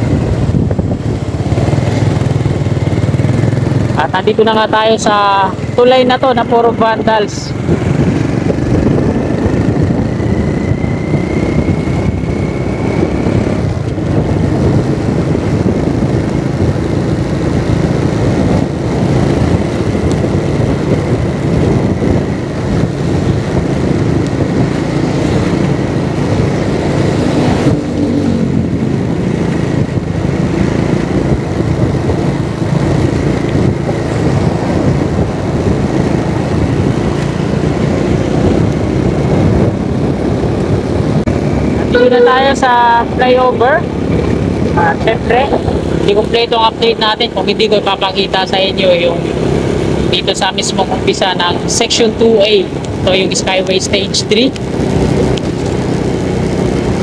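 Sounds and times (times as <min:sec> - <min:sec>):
road noise: 0:00.0 - 0:57.0
vehicle engine: 0:00.0 - 0:57.0.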